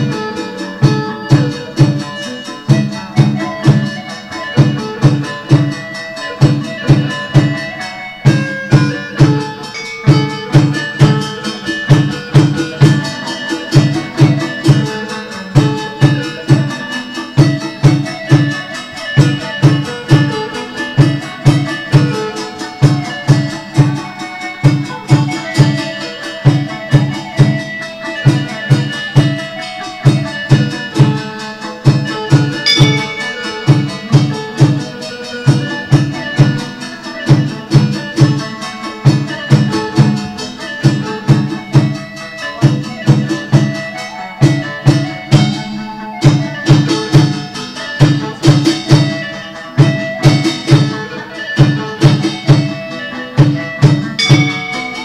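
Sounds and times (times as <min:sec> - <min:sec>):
percussion: 0:00.0 - 0:55.0
plucked string melody: 0:00.0 - 0:55.0
steady drum beat: 0:00.0 - 0:55.0.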